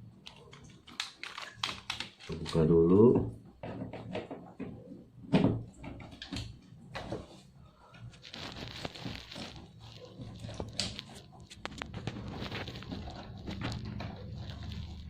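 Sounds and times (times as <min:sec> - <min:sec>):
hand tools clicking and scraping plastic: 0:00.1 - 0:03.0, 0:03.6 - 0:15.0.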